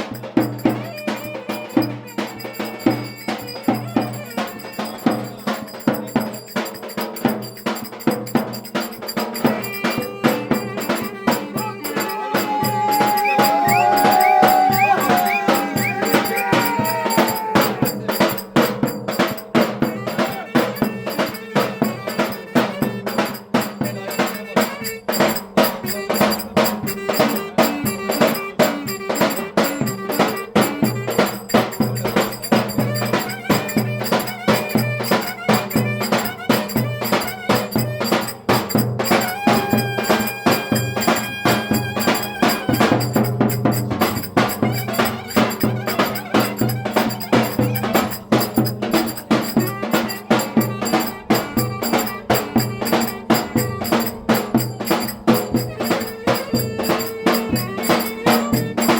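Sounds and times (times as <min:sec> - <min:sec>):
fast steady drum beat: 0:00.0 - 0:58.9
folk melody instrument: 0:00.0 - 0:58.9.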